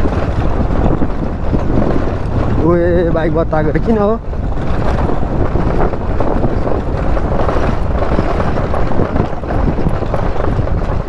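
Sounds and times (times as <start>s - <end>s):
motorcycle on rocky track: 0.0s - 11.0s
wind buffeting microphone: 0.0s - 11.0s.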